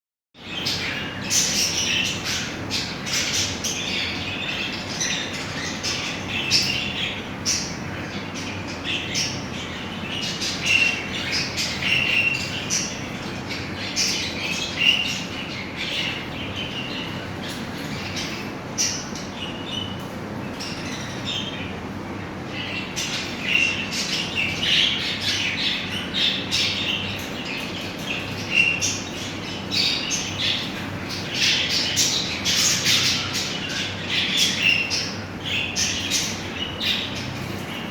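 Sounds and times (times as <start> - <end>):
small birds chirping and squawking: 0.4 - 37.9.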